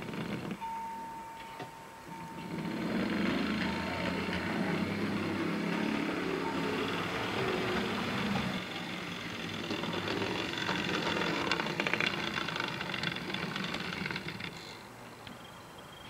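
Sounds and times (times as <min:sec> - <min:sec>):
model train motor whir: 0:00.0 - 0:00.7, 0:02.2 - 0:14.9
wheels clicking over rail joints: 0:00.0 - 0:00.8, 0:01.4 - 0:16.0.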